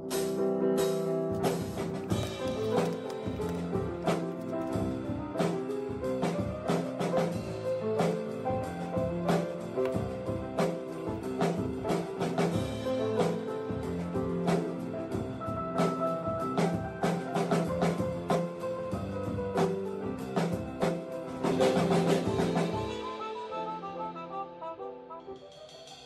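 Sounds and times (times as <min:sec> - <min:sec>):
instrumental music with drum beat: 0:00.0 - 0:23.3, 0:25.1 - 0:26.0.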